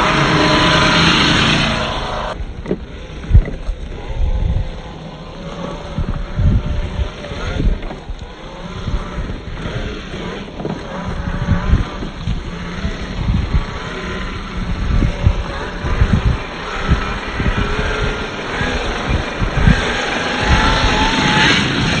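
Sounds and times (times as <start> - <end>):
electric motor and gears whining: 0.0 - 22.0
wind rumble on microphone: 0.0 - 22.0.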